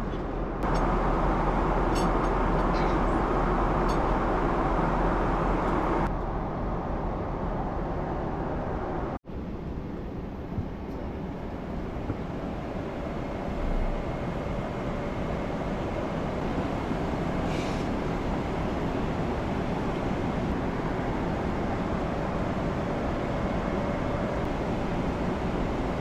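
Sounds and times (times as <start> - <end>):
airliner engines and airflow roar: 0.0 - 26.0.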